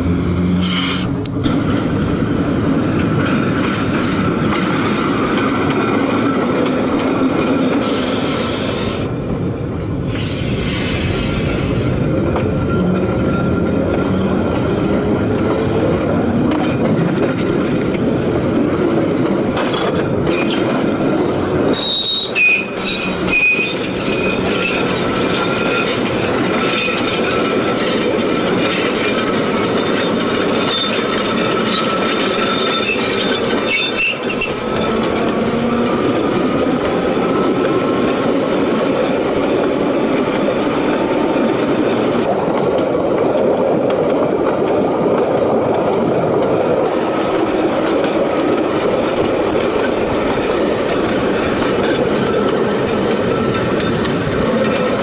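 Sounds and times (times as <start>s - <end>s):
tram wheels rumbling and squealing: 0.0s - 55.0s.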